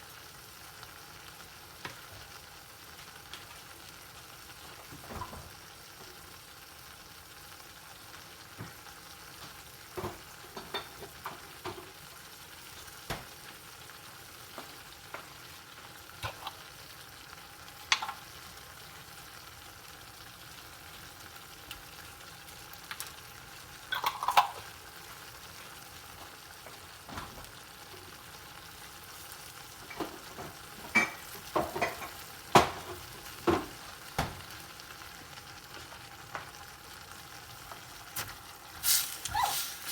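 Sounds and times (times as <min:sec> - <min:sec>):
frying sizzle: 0:00.0 - 0:39.9.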